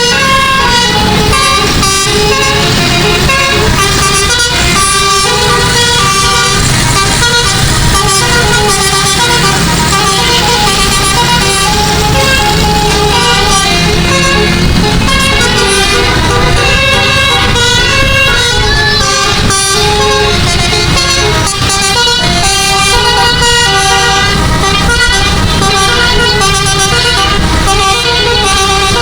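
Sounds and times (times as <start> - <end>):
musical bus horn playing tune: 0.0 - 29.0.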